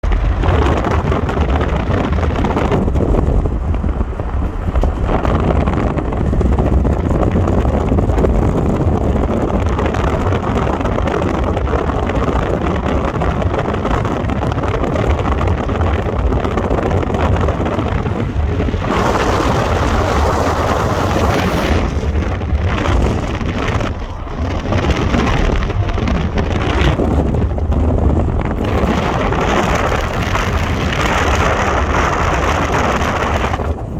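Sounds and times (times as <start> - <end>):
car engine and tyre rumble: 0.0 - 33.9
wind noise on microphone: 0.0 - 33.9.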